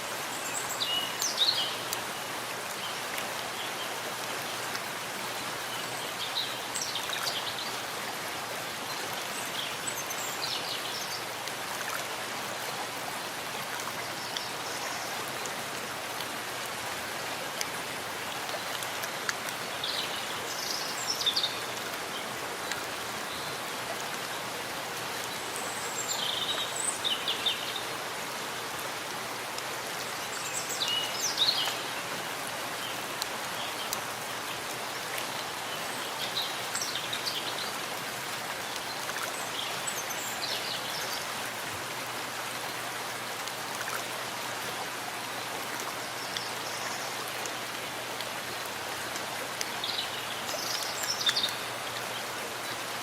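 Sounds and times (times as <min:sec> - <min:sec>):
steady rain in a forest: 0:00.0 - 0:53.0.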